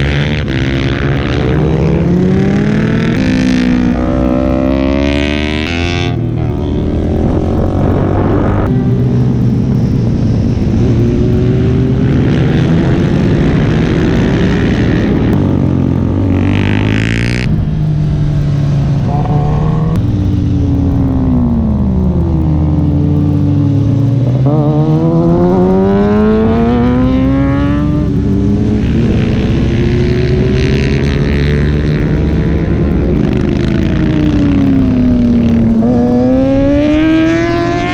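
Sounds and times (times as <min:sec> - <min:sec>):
motorbike engines racing: 0:00.0 - 0:37.9.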